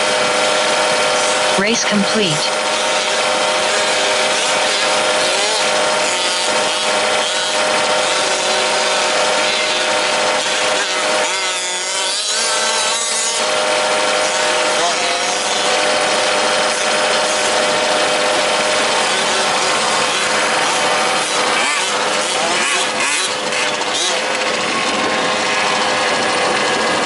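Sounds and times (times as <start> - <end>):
rc truck engines running: 0.0 - 27.0.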